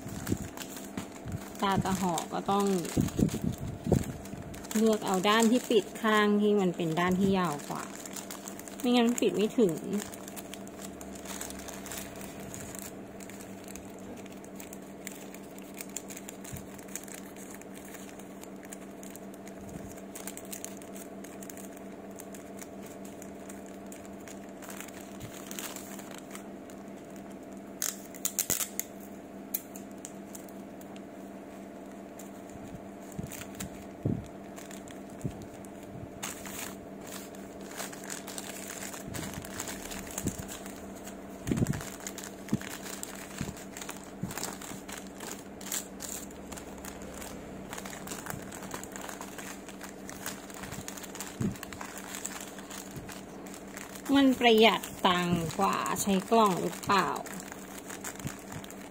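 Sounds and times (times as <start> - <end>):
steady low hum: 0.0 - 58.9
wrapping paper crinkling: 0.0 - 58.9.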